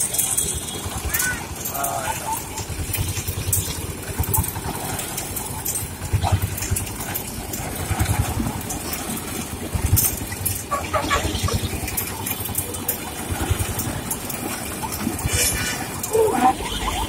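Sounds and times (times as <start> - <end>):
sugarcane juicer rumbling: 0.0 - 17.0.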